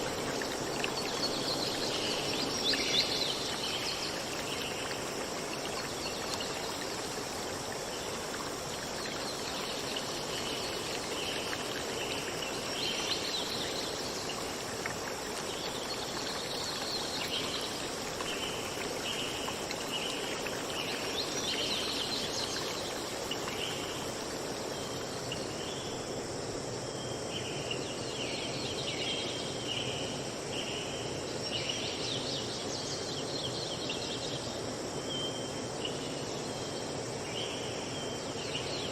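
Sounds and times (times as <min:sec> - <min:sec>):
high insect drone: 0:00.0 - 0:38.9
steady hiss: 0:00.0 - 0:38.9.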